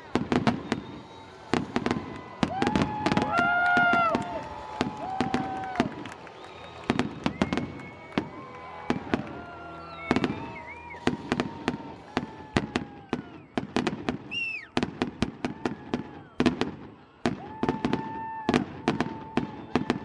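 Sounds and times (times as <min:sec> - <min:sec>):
fireworks bangs: 0:00.0 - 0:20.0
fireworks whistling: 0:00.0 - 0:20.0.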